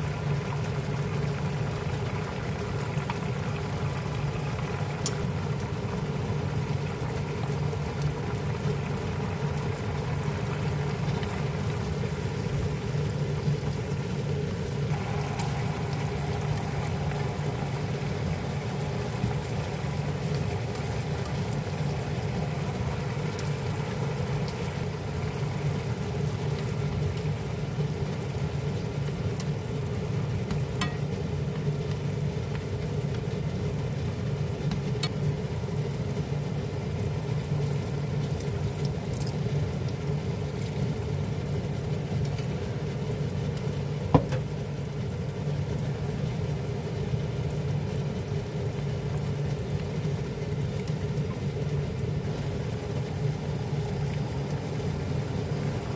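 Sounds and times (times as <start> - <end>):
food frying in a wok: 0.0 - 55.9
steady low hum: 0.0 - 55.9.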